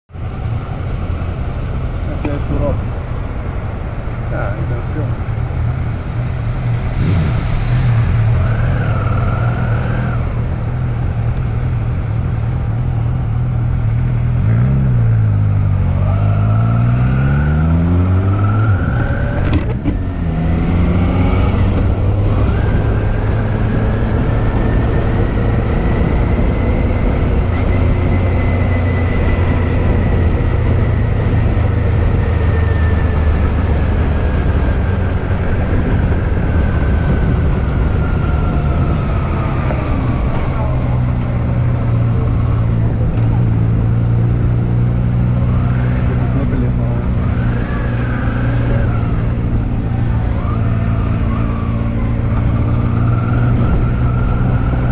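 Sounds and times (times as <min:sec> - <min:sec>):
motorcycle engine accelerating: 0:00.4 - 0:54.9.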